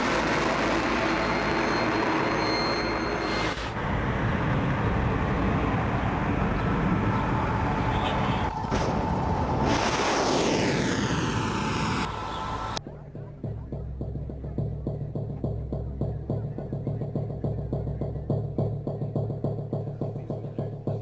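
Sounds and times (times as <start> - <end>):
rumbling aircraft engine: 0.0 - 21.0.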